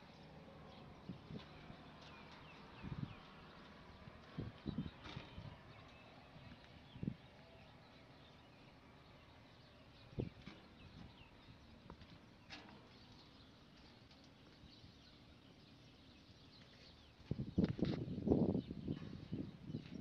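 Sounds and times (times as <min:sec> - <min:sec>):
faint outdoor ambience: 0:00.0 - 0:20.0
small birds chirping: 0:00.0 - 0:20.0.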